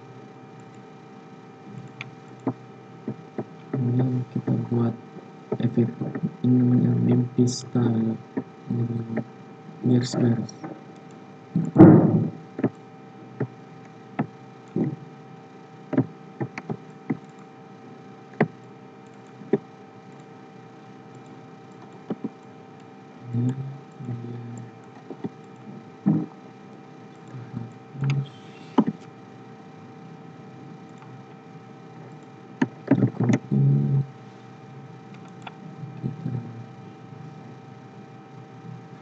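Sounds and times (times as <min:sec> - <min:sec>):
steady electrical hum: 0:00.0 - 0:39.0.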